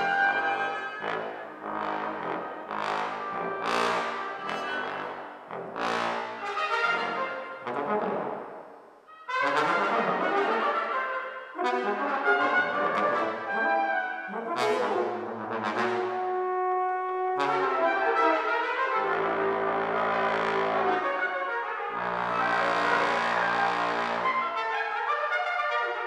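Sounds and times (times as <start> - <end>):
brass quartet playing: 0.0 - 8.4, 9.1 - 26.0.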